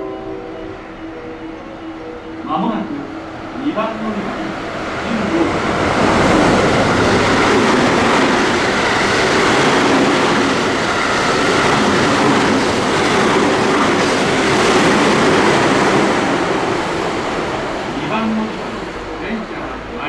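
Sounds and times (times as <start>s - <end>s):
train wheels rattling on rail: 2.5s - 20.0s.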